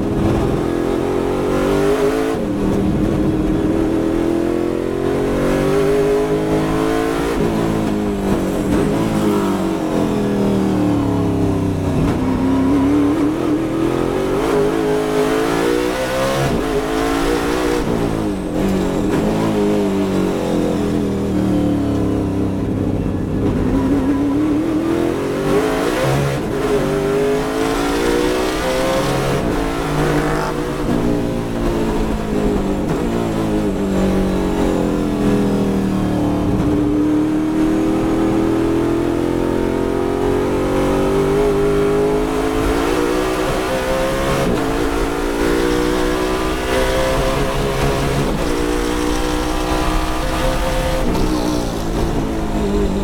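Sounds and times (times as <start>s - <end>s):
race car engine accelerating: 0.0s - 53.0s
road and wind noise: 0.0s - 53.0s.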